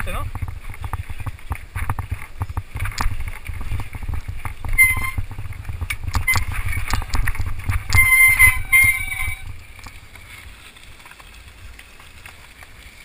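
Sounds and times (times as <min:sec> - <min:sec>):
bike clattering over rocks: 0:00.0 - 0:13.0
low rumble of wind: 0:00.0 - 0:13.0.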